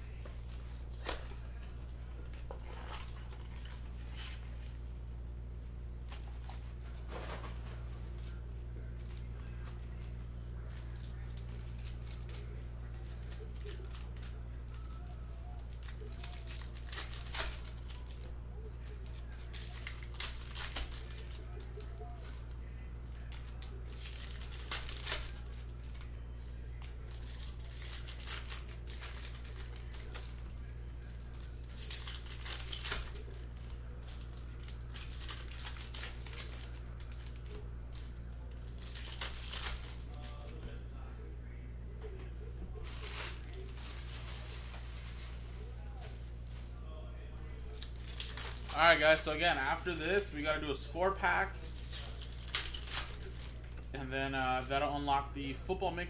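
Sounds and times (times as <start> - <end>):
foil wrappers crinkling and tearing: 0.0 - 5.1, 5.9 - 40.8, 42.7 - 46.8, 47.4 - 56.0
steady low hum: 0.0 - 56.0.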